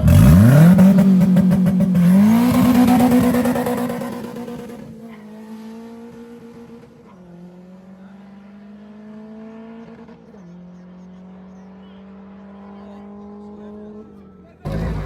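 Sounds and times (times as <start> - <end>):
race car engine accelerating: 0.0 - 14.0, 14.7 - 15.0.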